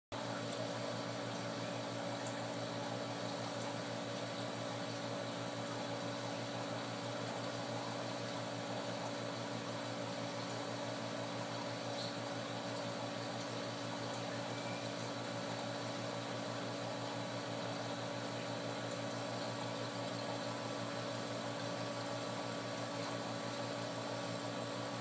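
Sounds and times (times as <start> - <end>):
aquarium pump humming: 0.2 - 25.0.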